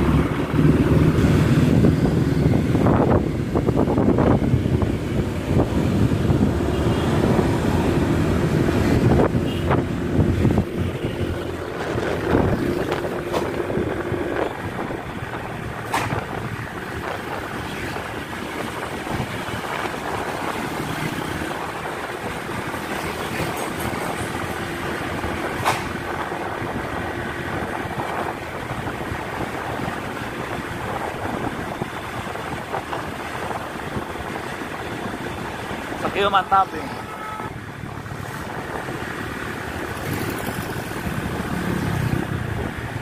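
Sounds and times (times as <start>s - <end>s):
wind on microphone: 0.0s - 36.2s, 37.4s - 43.0s
vehicle noise: 0.0s - 43.0s.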